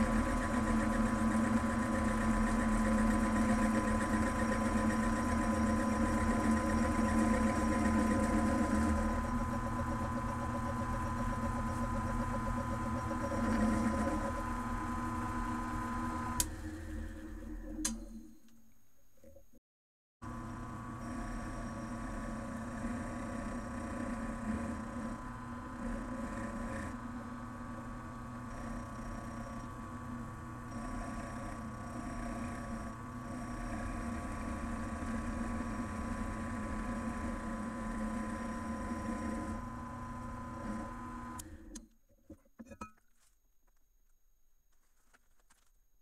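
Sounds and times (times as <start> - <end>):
mill-drill motor whine: 0.0 - 18.5, 20.2 - 41.8.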